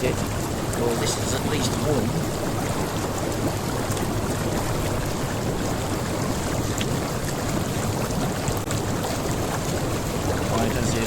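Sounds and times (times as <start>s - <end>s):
hot tub jets bubbling: 0.0s - 11.0s.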